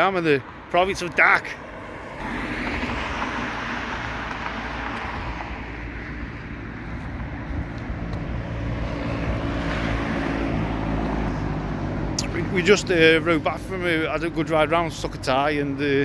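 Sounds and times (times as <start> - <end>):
road noise: 0.0 - 16.0
vehicle engine running: 2.2 - 16.0.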